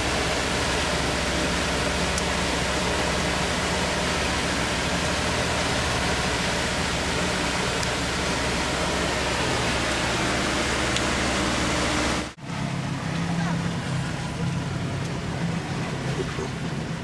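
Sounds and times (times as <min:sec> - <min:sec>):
boat engine droning: 0:00.0 - 0:17.0
wind and water rushing over hull: 0:00.0 - 0:17.0.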